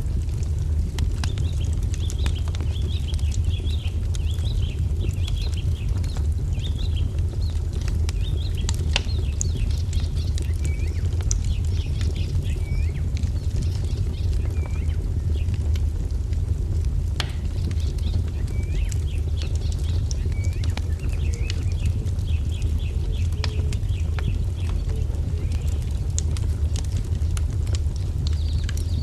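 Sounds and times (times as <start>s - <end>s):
wood fire crackling: 0.0s - 29.0s
songbirds twittering: 0.2s - 16.0s, 17.2s - 29.0s.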